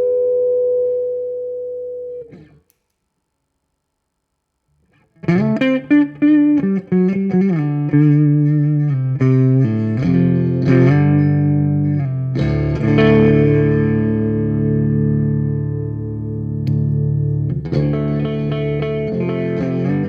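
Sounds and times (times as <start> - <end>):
electric guitar playing: 0.0 - 2.6, 5.1 - 20.0.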